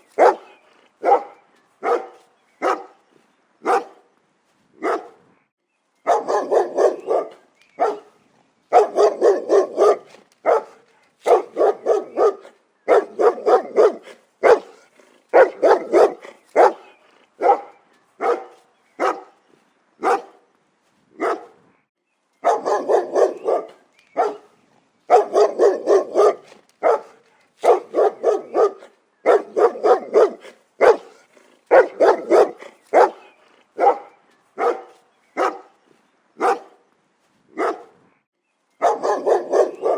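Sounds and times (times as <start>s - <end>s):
dog barking: 0.1s - 3.0s, 3.6s - 4.1s, 4.8s - 5.2s, 6.0s - 19.4s, 20.0s - 20.4s, 21.2s - 21.6s, 22.4s - 24.5s, 25.1s - 35.7s, 36.4s - 36.8s, 37.6s - 38.0s, 38.8s - 39.9s.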